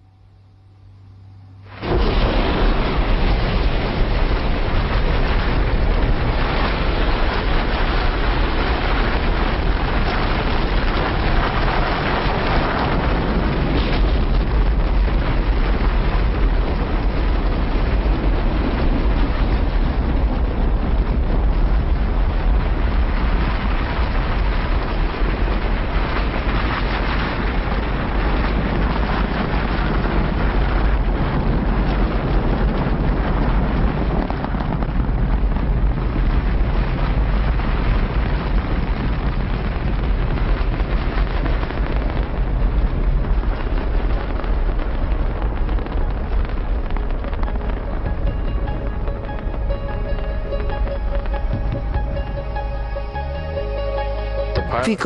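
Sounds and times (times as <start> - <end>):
rocket launch rumble: 0.0 - 55.0.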